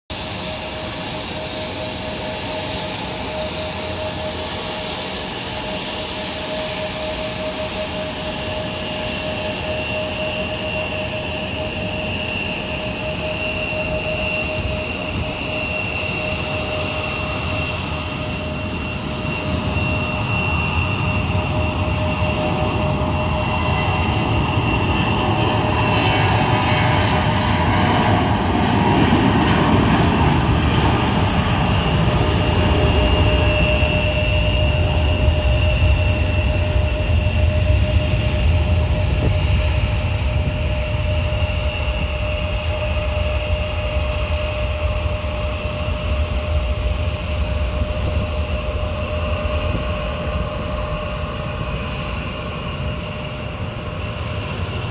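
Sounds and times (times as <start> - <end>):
jet engines at takeoff: 0.1 - 54.9.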